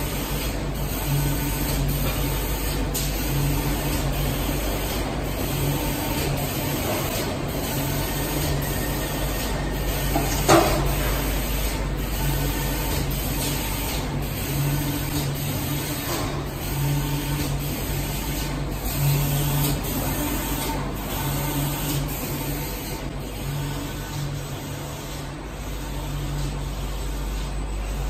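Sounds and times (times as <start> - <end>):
conveyor machinery hum and hiss: 0.0 - 28.0.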